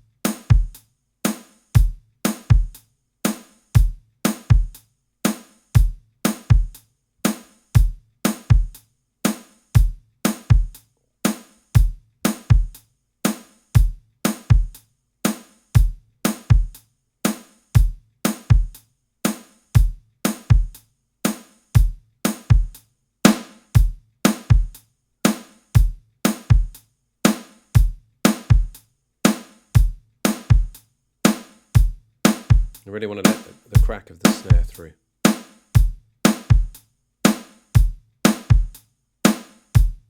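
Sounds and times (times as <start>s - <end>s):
acoustic drum beat: 0.0s - 40.0s.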